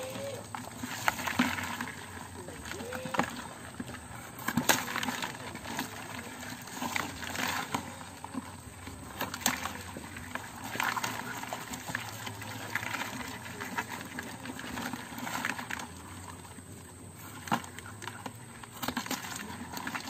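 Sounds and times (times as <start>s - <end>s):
crabs clattering in plastic bucket: 0.0s - 20.0s
hand rummaging rustles: 0.0s - 20.0s.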